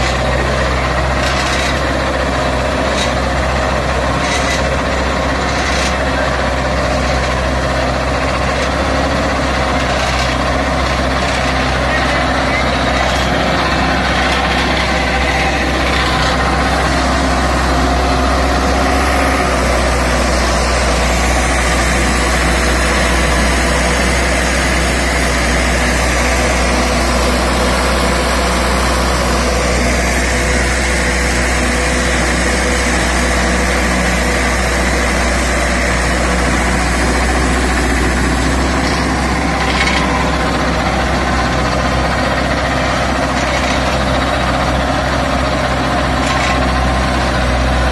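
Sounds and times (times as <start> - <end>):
tractor engine droning: 0.0 - 47.9.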